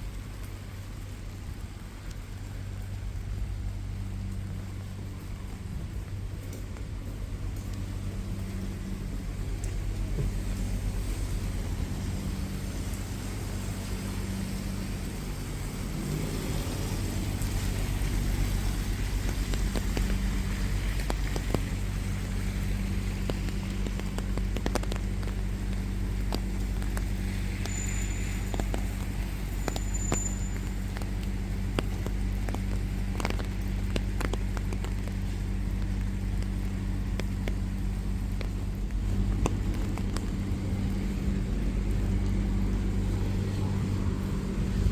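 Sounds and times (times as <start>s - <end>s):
light ticks and clicks: 0.0s - 44.9s
road traffic engine hum: 0.0s - 44.9s.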